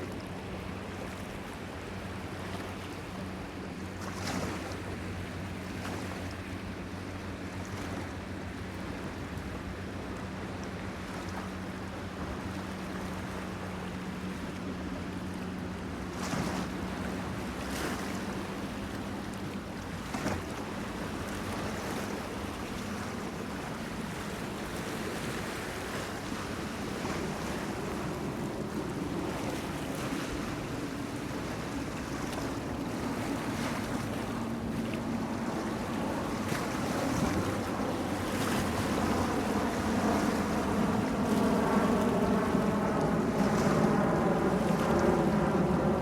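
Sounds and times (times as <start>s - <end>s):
boat engine hum: 0.0s - 46.0s
wind: 0.0s - 46.0s.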